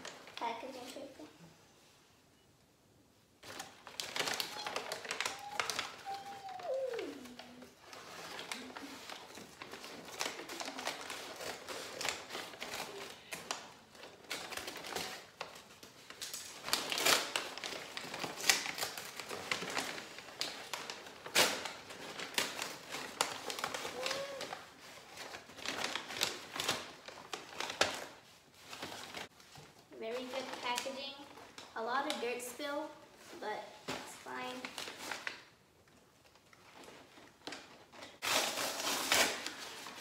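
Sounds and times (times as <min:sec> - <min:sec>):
paper rustling and crinkling: 0:03.4 - 0:32.2, 0:33.1 - 0:40.0.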